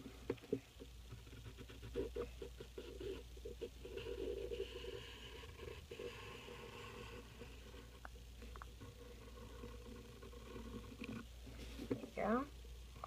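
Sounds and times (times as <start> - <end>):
pencil scratching on paper: 0.0 - 8.0, 8.7 - 12.0.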